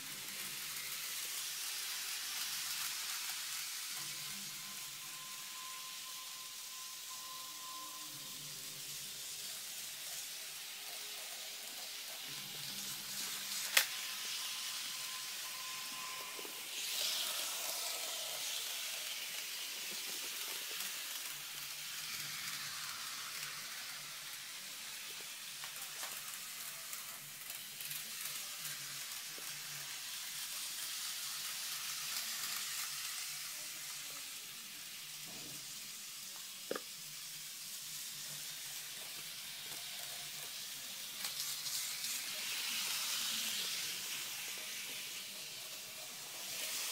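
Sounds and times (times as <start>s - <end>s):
model train running on track: 0.0s - 46.9s.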